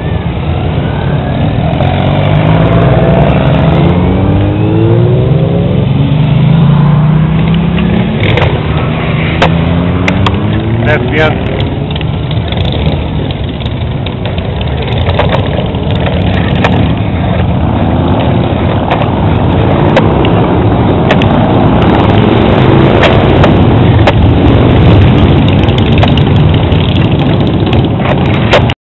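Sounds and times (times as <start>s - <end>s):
motorcycle engines passing: 0.0s - 28.7s.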